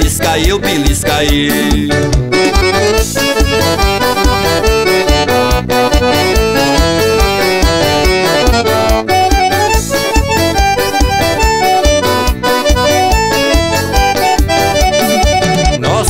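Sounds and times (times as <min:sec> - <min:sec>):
accordion melody: 0:00.0 - 0:16.0
low drum and bass beat: 0:00.0 - 0:16.0.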